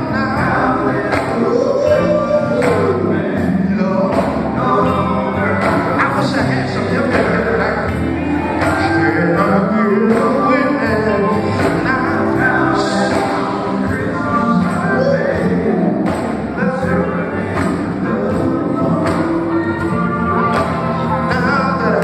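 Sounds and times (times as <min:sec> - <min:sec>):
drums: 0:00.0 - 0:22.0
electric guitar: 0:00.0 - 0:22.0
male lead singing: 0:00.0 - 0:22.0.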